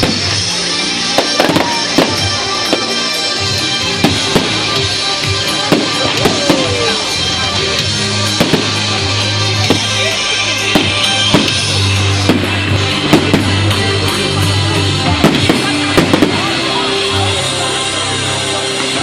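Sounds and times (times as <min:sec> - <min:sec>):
firework bangs and crackles: 0:00.0 - 0:19.0
loud music with drums and bass: 0:00.0 - 0:19.0.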